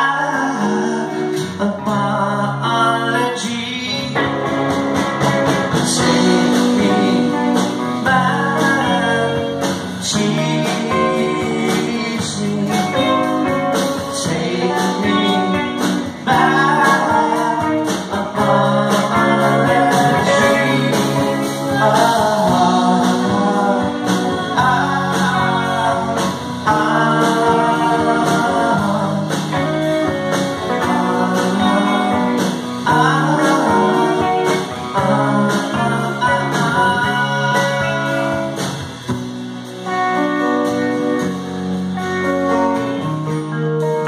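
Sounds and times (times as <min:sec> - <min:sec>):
lead vocal singing: 0:00.0 - 0:04.4, 0:05.6 - 0:38.7
bass guitar: 0:00.0 - 0:44.0
drum kit: 0:00.0 - 0:44.0
electric and acoustic guitars: 0:00.0 - 0:44.0.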